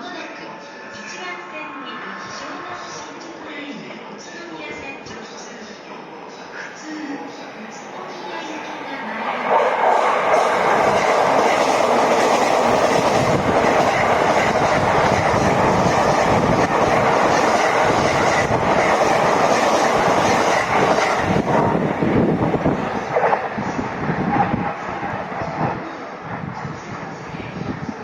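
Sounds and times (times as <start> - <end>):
train passing close by: 0.3 - 5.8, 6.4 - 28.0.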